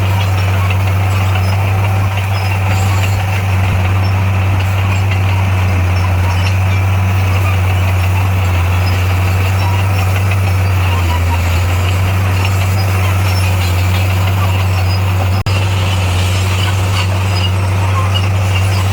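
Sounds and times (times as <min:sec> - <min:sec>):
construction machinery diesel engine: 0:00.0 - 0:18.9.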